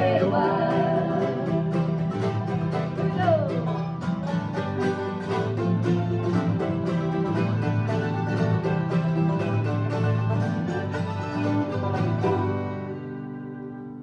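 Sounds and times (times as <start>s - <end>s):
banjo picking: 0.0s - 14.0s
bass line: 0.0s - 14.0s
bluegrass band playing: 0.0s - 14.0s.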